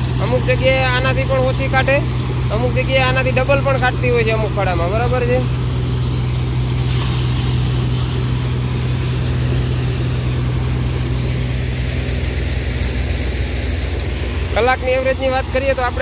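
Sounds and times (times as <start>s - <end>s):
thresher running: 0.0s - 16.0s.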